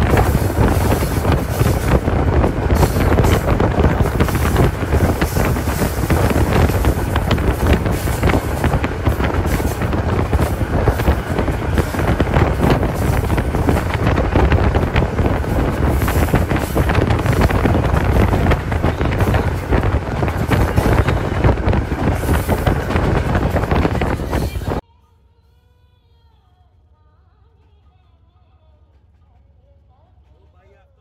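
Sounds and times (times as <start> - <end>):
train running on rails: 0.0 - 24.8, 28.8 - 31.0
wind buffeting microphone: 0.0 - 24.8.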